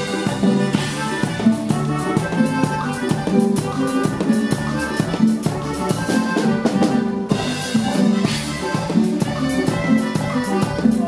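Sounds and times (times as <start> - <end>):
drum kit beat: 0.0 - 11.0
live band playing a song: 0.0 - 11.0.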